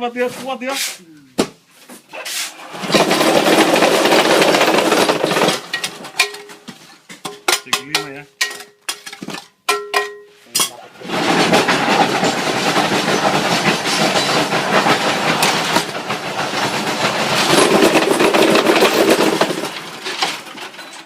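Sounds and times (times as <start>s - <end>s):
concrete block press clattering: 2.6s - 21.0s.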